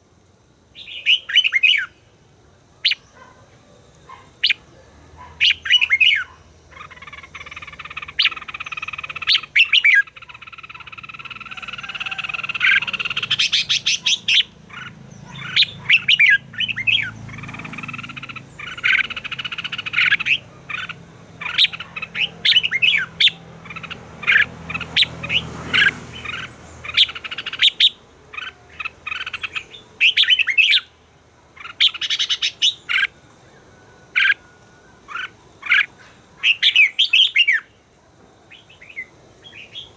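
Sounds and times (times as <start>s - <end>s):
birds whistled notes and chirps: 0.7s - 2.2s, 2.8s - 37.9s, 38.5s - 39.9s.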